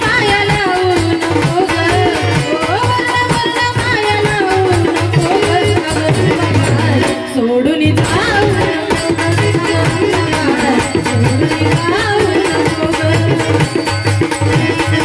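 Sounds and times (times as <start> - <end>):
fast hand-drum beat: 0.0 - 7.2, 8.0 - 15.0
woman singing devotional song: 0.0 - 15.0.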